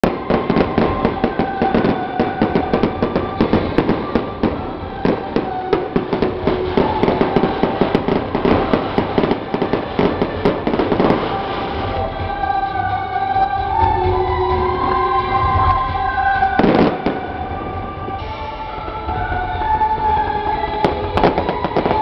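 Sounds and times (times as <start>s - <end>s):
fireworks bangs and crackles: 0.0s - 12.6s, 13.8s - 22.0s.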